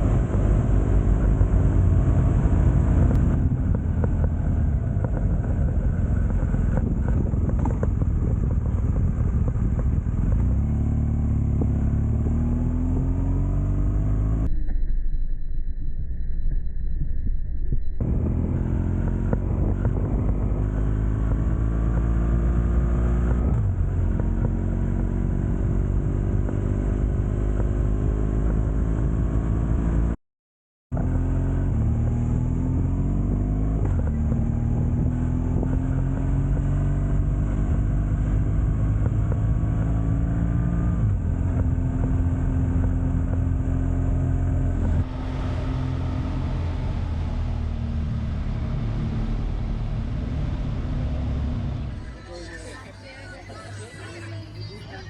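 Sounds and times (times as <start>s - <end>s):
motorcycle engine revving: 0.0s - 14.5s, 18.0s - 30.2s, 30.9s - 55.0s
road and wind noise: 0.0s - 30.2s, 30.9s - 55.0s.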